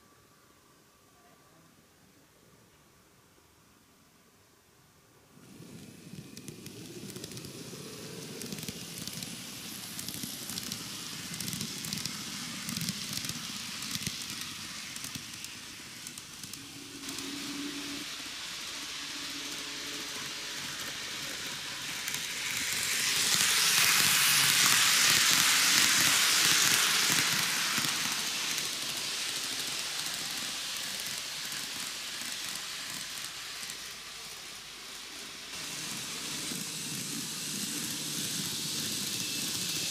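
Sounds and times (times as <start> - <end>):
model train wheels and motor rattle: 5.4 - 39.9.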